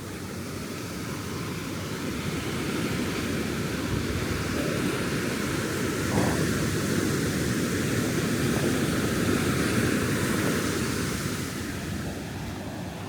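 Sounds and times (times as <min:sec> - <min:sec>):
ocean surf breaking on beach: 0:01.2 - 0:13.0.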